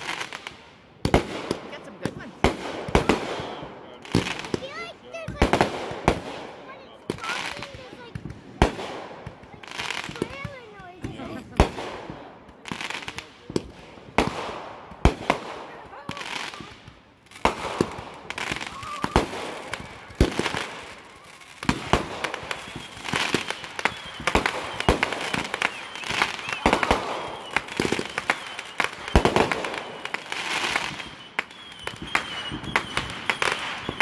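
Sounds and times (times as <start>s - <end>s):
fireworks bangs: 0.0s - 34.0s
fireworks crackle and hiss: 0.0s - 34.0s.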